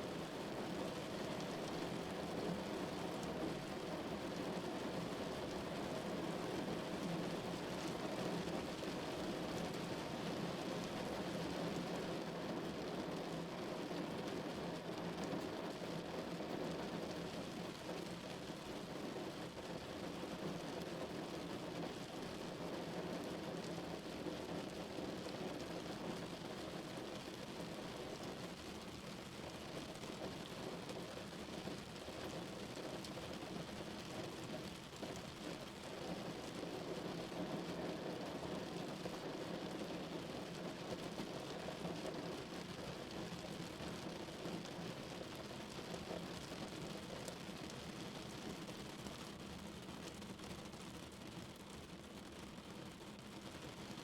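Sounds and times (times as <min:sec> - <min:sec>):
rain on a car roof: 0:00.1 - 0:54.0.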